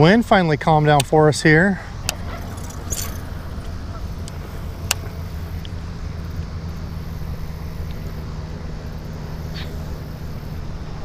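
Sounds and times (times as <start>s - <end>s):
low motor hum: 1.8s - 11.0s.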